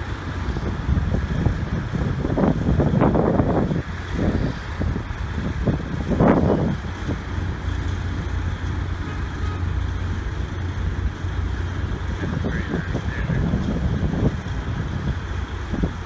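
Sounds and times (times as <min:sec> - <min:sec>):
drilling rig engine drone: 0:00.0 - 0:16.0.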